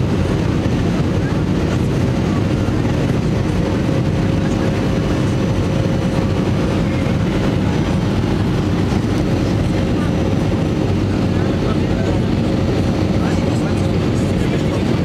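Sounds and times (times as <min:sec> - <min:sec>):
constant hum: 0:00.0 - 0:15.0
jet cabin engine roar: 0:00.0 - 0:15.0.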